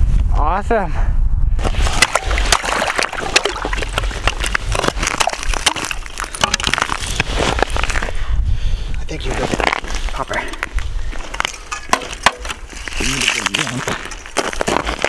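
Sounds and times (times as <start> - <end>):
slush and water sloshing: 1.6 - 8.1, 9.3 - 15.0.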